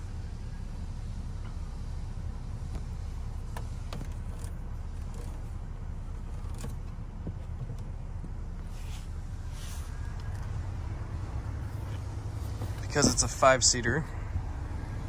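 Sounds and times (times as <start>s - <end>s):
vehicle cabin low rumble: 0.0s - 15.0s.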